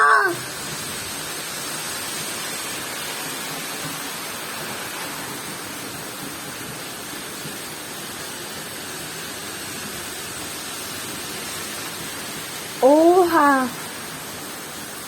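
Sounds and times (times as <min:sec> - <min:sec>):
heavy rain splashing: 0:00.0 - 0:15.0.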